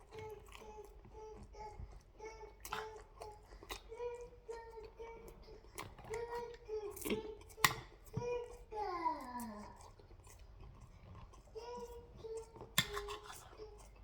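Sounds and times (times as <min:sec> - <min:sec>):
small child singing or babbling: 0:00.0 - 0:10.0, 0:11.4 - 0:14.0.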